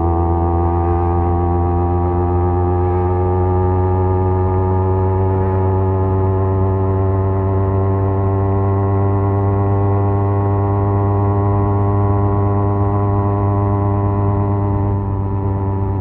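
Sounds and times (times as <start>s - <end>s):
motorcycle engine drone: 0.0s - 16.0s.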